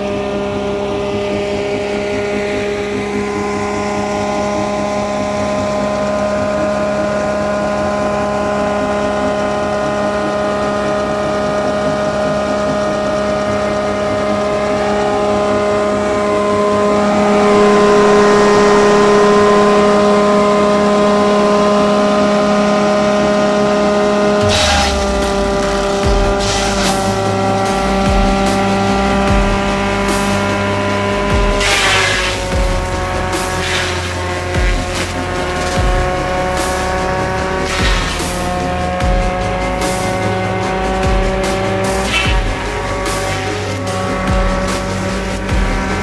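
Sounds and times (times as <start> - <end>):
pulverizer shredding branches: 0.0 - 46.0
tractor diesel engine running: 0.0 - 46.0.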